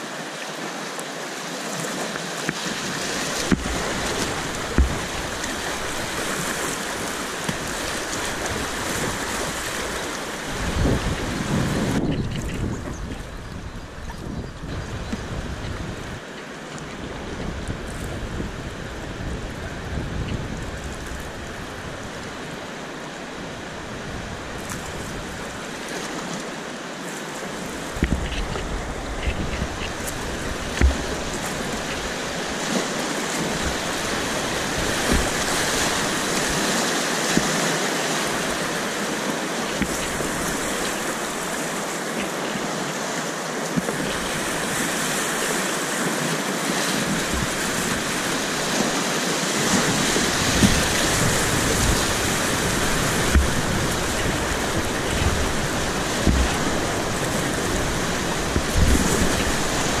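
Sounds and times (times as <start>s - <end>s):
river rapids rushing: 0.0s - 60.0s
paddle splashes and knocks: 1.8s - 18.4s, 24.6s - 60.0s.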